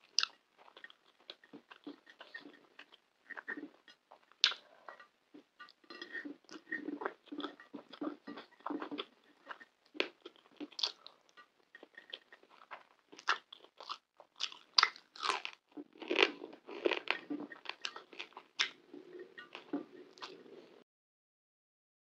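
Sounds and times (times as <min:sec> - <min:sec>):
crispy food crunching: 0:00.0 - 0:20.8.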